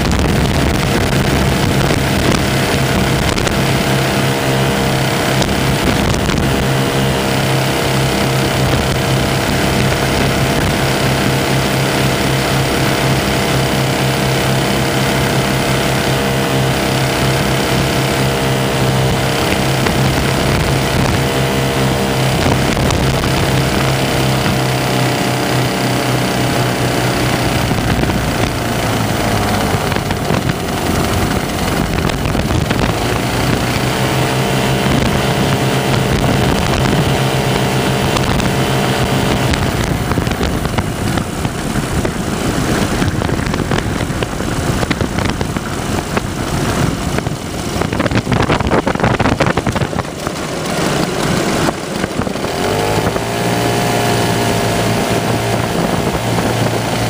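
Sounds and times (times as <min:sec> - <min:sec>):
small aircraft engines: 0:00.0 - 0:57.0
wheels rumbling on grass: 0:00.0 - 0:57.0
wind rush: 0:00.0 - 0:57.0.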